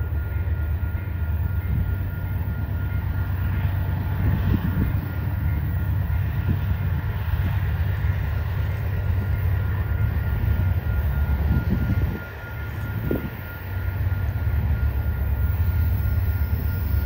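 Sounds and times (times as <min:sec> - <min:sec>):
diesel locomotive rumble: 0:00.0 - 0:17.0.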